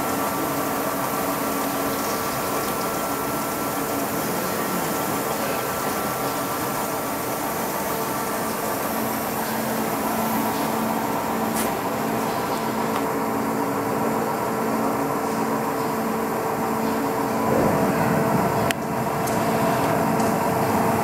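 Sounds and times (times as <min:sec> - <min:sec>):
machine humming with tones: 0:00.0 - 0:21.0.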